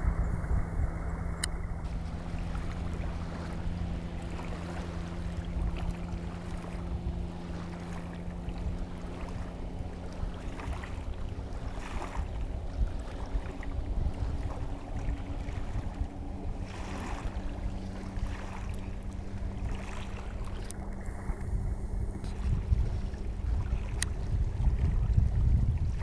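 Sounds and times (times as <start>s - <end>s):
faint hum: 0.0s - 26.0s
wind buffeting microphone: 0.0s - 26.0s.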